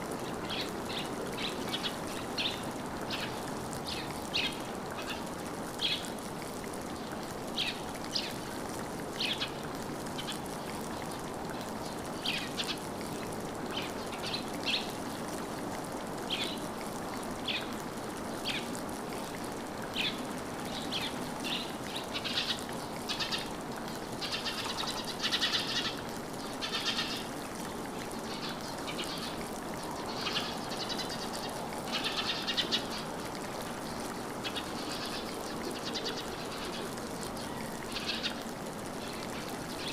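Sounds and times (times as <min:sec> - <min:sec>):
steady low hiss: 0:00.0 - 0:39.9.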